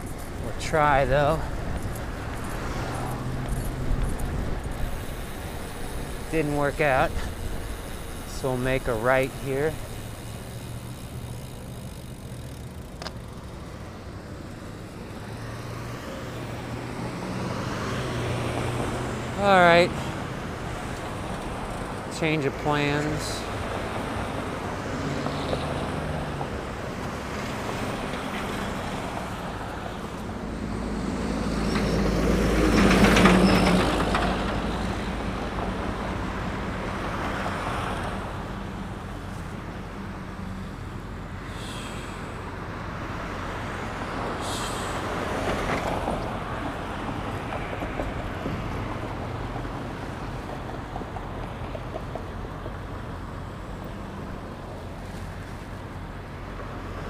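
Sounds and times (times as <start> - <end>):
city road traffic: 0.0 - 57.0.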